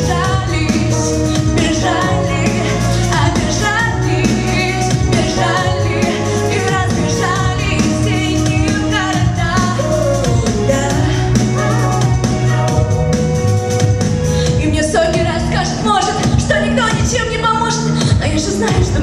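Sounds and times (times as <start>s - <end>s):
woman singing pop song: 0.0s - 13.1s, 14.3s - 19.0s
backing track with bass: 0.0s - 19.0s.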